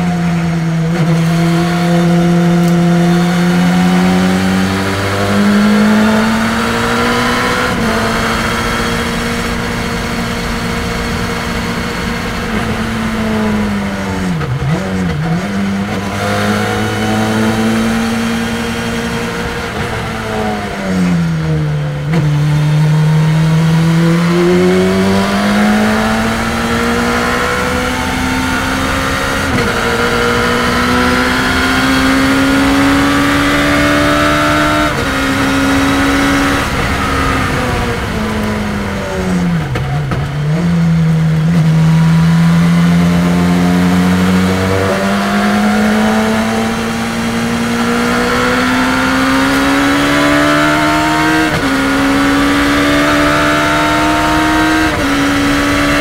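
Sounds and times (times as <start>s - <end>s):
racing car engine accelerating: 0.0s - 56.0s.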